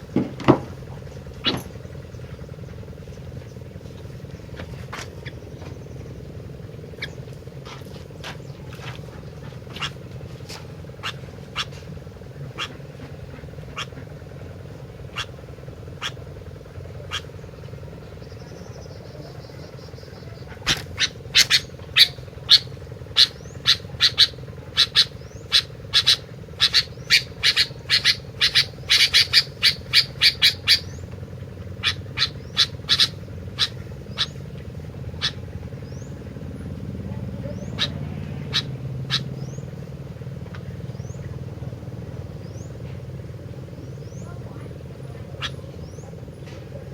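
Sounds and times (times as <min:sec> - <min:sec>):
bird chip calls: 0:00.0 - 0:46.9
steady low hum: 0:00.0 - 0:46.9.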